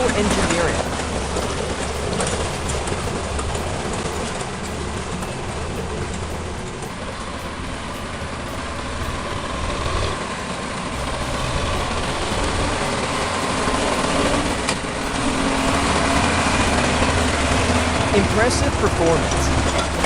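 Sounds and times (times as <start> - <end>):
heavy machinery engine droning: 0.0 - 20.0.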